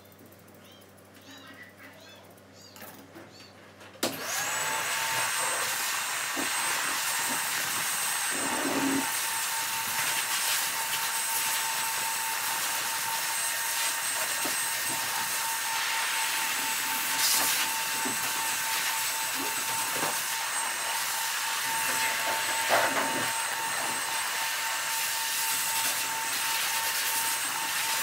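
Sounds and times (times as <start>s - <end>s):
electric blower whining: 4.0s - 28.0s.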